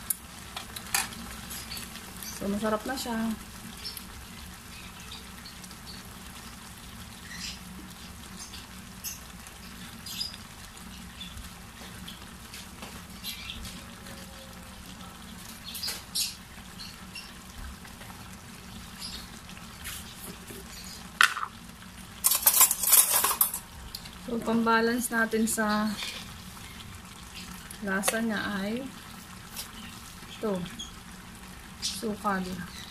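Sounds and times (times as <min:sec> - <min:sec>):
sauce simmering in a pan: 0:00.0 - 0:32.9.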